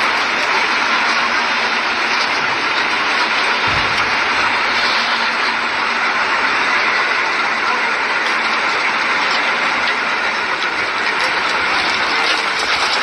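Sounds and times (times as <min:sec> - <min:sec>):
crane mechanical noise: 0:00.0 - 0:13.0.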